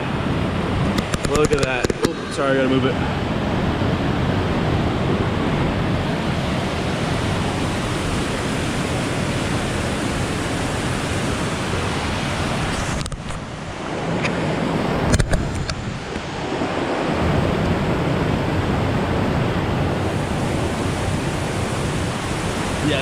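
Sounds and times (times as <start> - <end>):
waterfall rushing: 0.0 - 18.6, 19.2 - 23.0.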